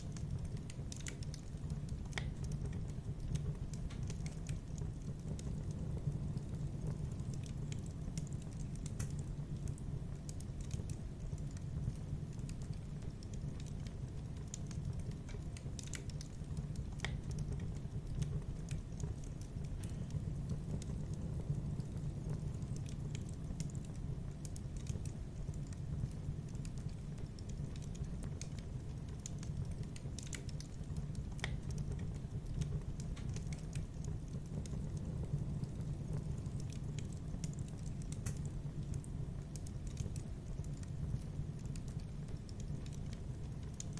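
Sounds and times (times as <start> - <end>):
fire crackling: 0.0 - 43.9.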